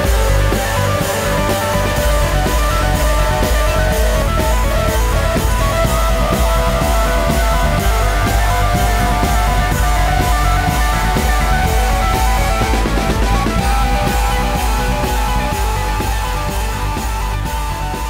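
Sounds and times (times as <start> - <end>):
rock music with guitar and drums: 0.0 - 18.0.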